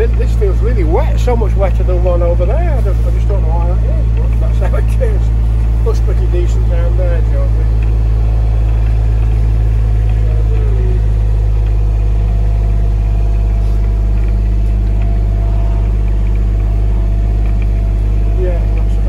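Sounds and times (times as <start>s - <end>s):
utility vehicle engine droning: 0.0s - 19.0s.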